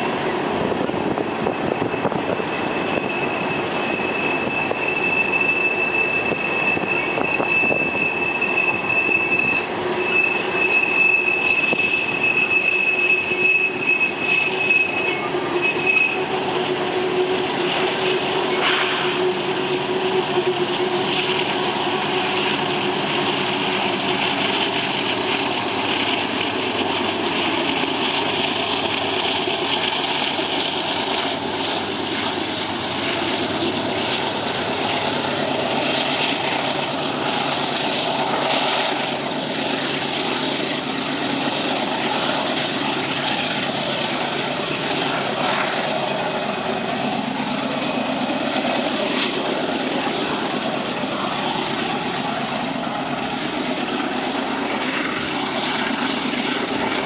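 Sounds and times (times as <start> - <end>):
diesel locomotive engines droning: 0.0 - 57.0.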